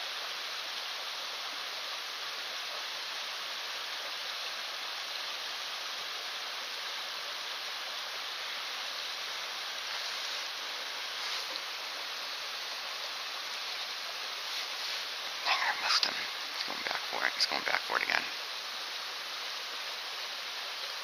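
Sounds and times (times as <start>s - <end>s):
steady rushing hiss: 0.0s - 21.0s.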